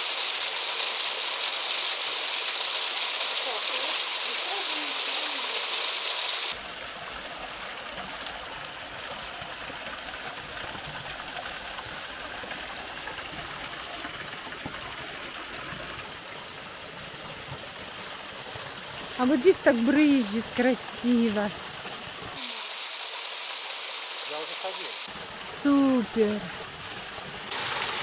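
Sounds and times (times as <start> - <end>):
waterfall splashing on rock: 0.0 - 28.0.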